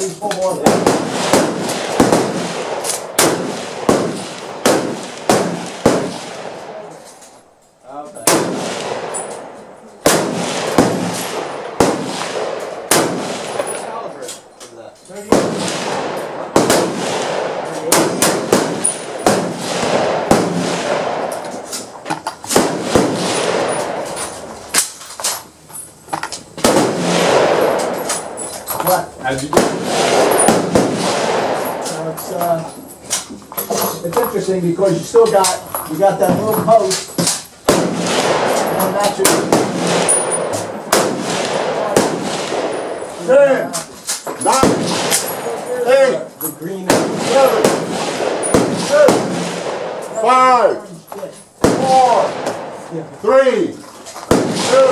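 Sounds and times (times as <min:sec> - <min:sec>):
fainter distant gunshots: 0:00.0 - 0:07.0, 0:08.2 - 0:14.3, 0:15.1 - 0:25.0, 0:26.5 - 0:32.7, 0:33.9 - 0:50.8, 0:51.6 - 0:53.7, 0:54.3 - 0:54.9
rifle shots with echo: 0:00.0 - 0:07.2, 0:08.2 - 0:14.5, 0:15.1 - 0:25.6, 0:26.4 - 0:50.8, 0:51.6 - 0:54.9.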